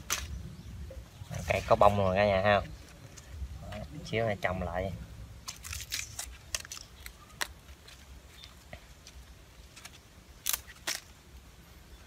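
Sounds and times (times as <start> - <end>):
roots and soil crackling: 0.0 - 12.0.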